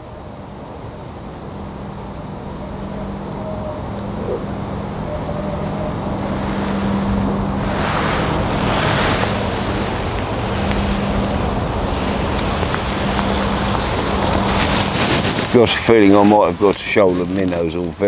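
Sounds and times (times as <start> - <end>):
wind buffeting microphone: 0.0 - 18.0
wind gusts rushing: 0.0 - 18.0.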